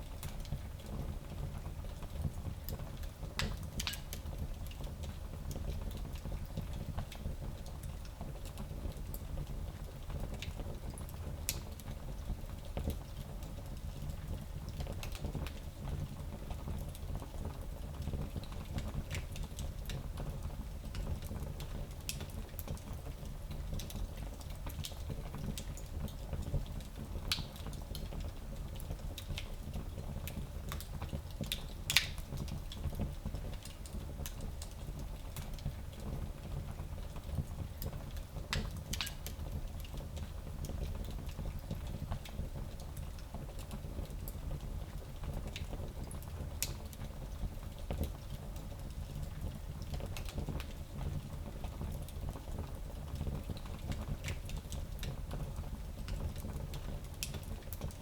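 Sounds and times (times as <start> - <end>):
fireplace fire crackling: 0.0 - 58.0
low rumble of fire: 0.0 - 58.0.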